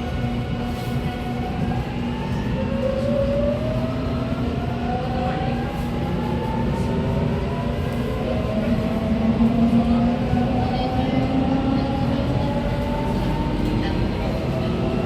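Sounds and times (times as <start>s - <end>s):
train wheel rumble: 0.0s - 15.0s.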